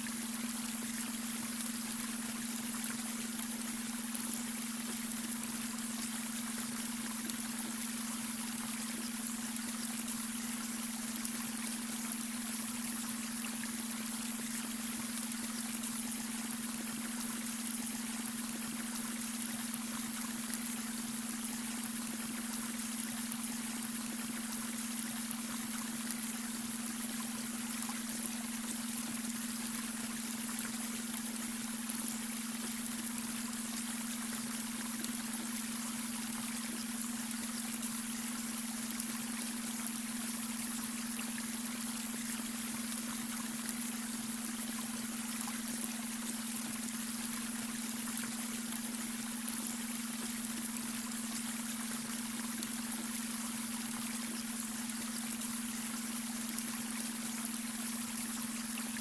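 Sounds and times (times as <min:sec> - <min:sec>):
brook water over stones: 0:00.0 - 0:59.0.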